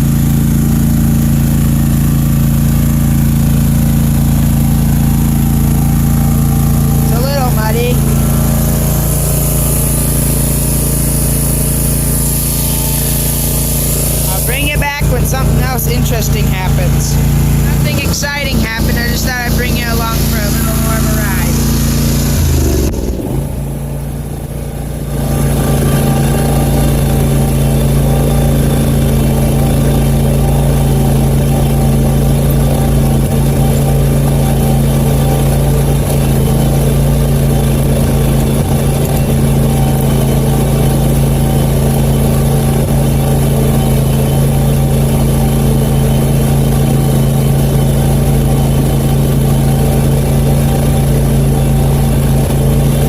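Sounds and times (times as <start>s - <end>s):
riding mower engine running: 0.0s - 53.0s.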